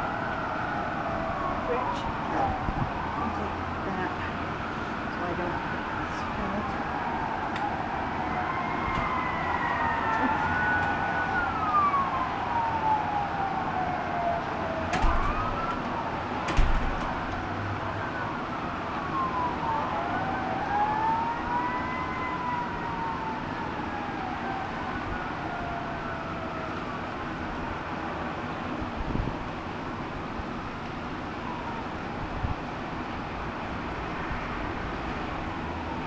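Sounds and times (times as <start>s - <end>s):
emergency sirens wailing: 0.0s - 36.0s.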